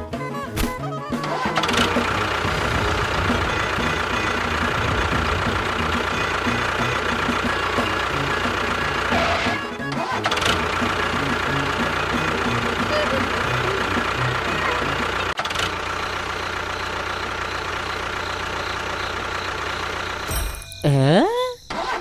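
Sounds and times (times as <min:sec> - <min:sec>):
small motor running: 0:01.3 - 0:20.3.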